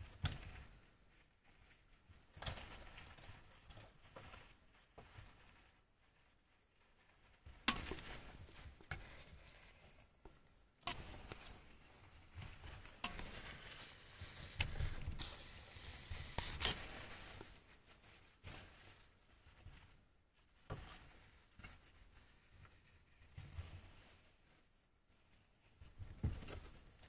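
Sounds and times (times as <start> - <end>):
rodents rustling in hay: 0.0 - 27.0.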